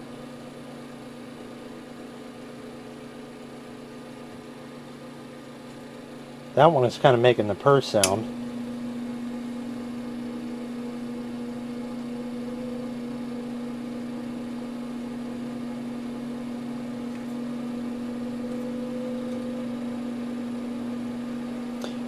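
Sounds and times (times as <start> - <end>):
fan motor hum with air rushing: 0.0 - 22.0
fan vibration purr: 0.0 - 22.0.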